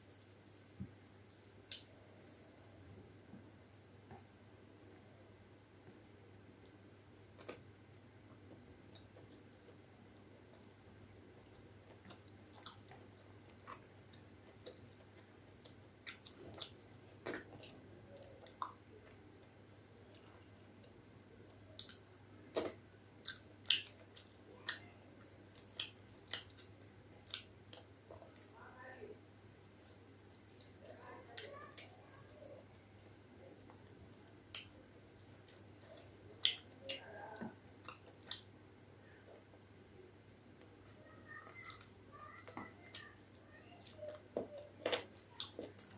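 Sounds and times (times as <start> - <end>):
person chewing food: 0.0 - 4.3, 8.3 - 28.6, 29.4 - 39.6, 41.5 - 45.9.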